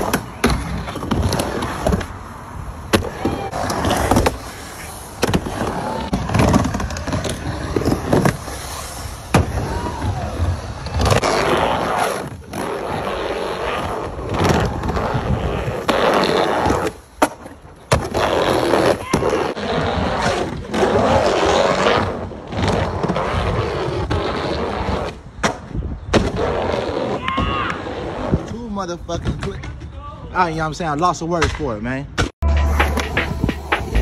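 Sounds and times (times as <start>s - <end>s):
skateboard wheels rolling: 0.0s - 30.0s.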